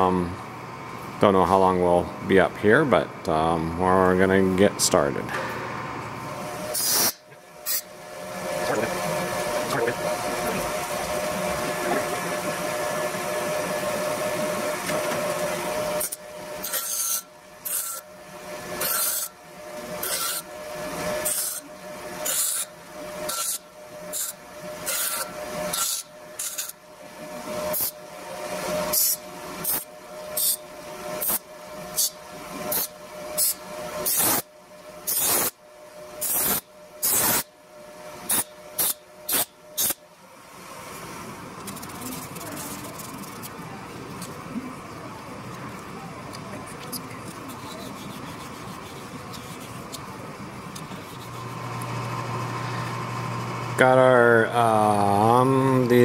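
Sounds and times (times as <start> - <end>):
bench grinder motor hum: 0.0 - 40.0, 41.0 - 56.0.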